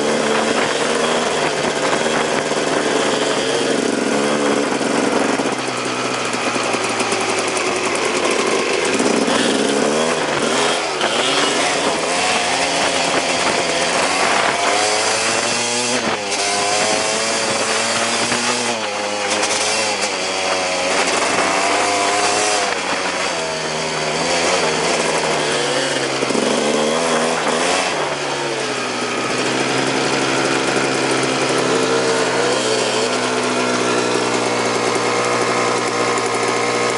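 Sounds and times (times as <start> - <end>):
dirt bike two-stroke engine revving: 0.0 - 36.9.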